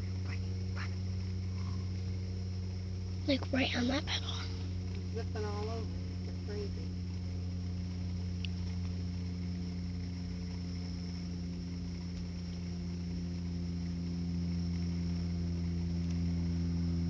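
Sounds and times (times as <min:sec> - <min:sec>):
faint high-pitched whine: 0:00.0 - 0:17.0
motor humming: 0:00.0 - 0:17.0.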